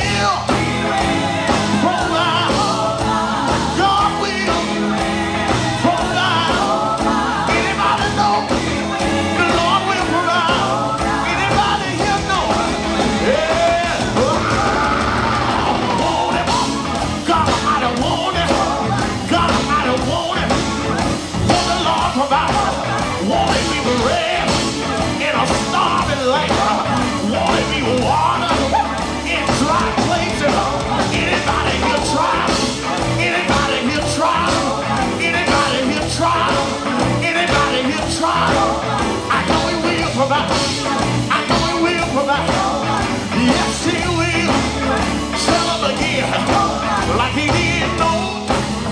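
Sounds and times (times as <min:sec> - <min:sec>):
gospel band playing: 0:00.0 - 0:48.9
person shouting and singing: 0:00.0 - 0:48.9.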